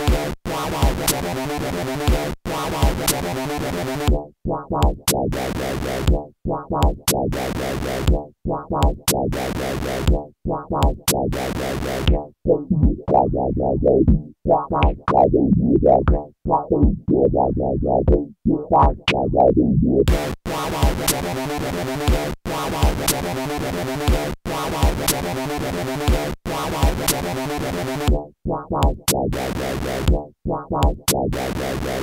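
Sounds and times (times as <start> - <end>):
drum machine clicks: 0.0 - 1.3, 2.0 - 3.3, 4.0 - 19.5, 20.1 - 21.4, 22.0 - 23.4, 24.0 - 25.3, 26.0 - 27.4, 28.0 - 32.0
plucked synth bass notes: 0.0 - 32.0.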